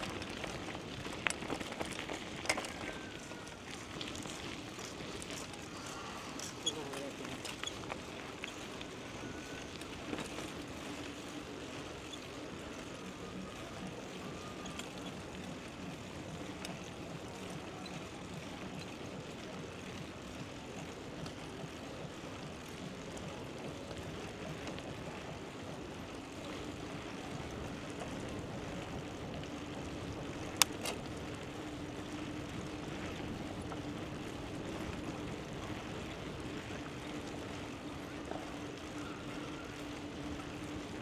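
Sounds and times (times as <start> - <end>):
bicycle riding noise: 0.0 - 41.0
faint steady hum: 0.0 - 41.0.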